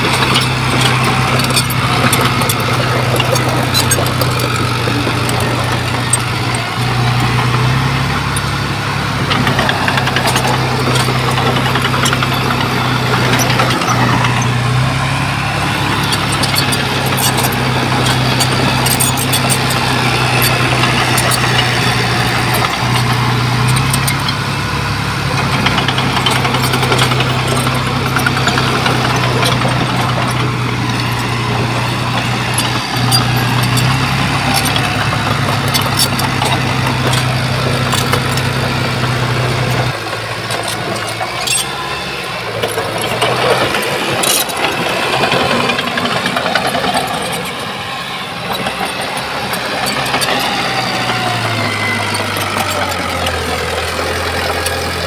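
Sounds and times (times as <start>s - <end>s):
metallic clanks and clicks: 0.0s - 8.6s, 9.2s - 14.9s, 15.6s - 24.5s, 25.3s - 55.0s
bulldozer diesel engine running: 0.0s - 55.0s.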